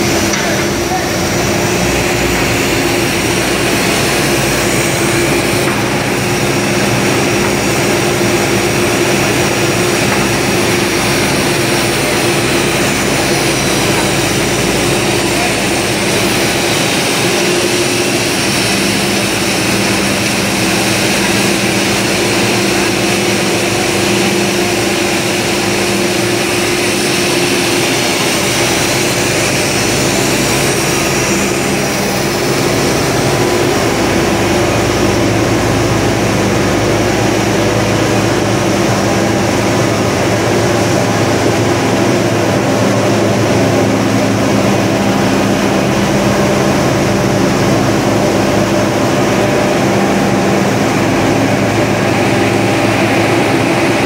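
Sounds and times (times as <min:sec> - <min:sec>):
machinery drone: 0:00.0 - 0:54.0.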